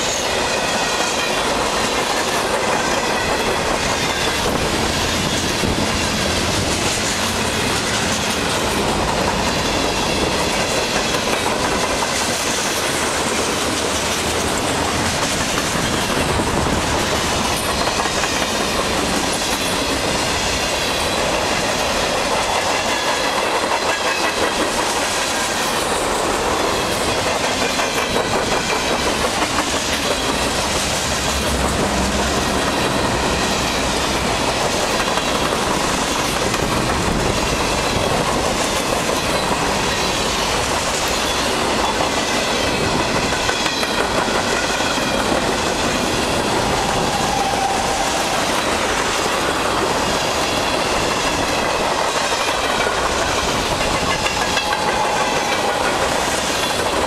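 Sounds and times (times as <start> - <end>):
steel wheels rolling on rails: 0.0 - 57.0.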